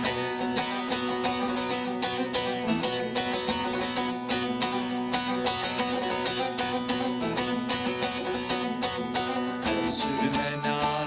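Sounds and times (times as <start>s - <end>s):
plucked string instruments: 0.0s - 11.0s.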